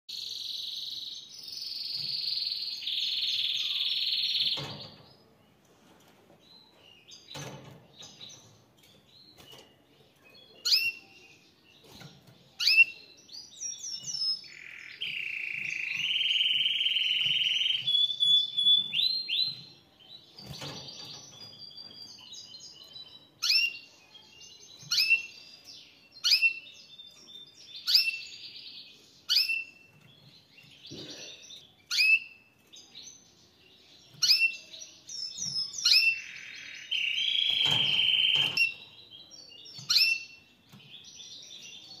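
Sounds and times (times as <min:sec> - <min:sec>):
canary chirping: 0:00.1 - 0:05.6, 0:06.4 - 0:42.0.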